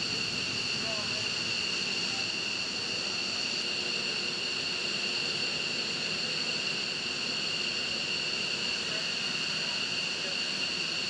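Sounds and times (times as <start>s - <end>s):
jet turbine whine: 0.0s - 11.0s.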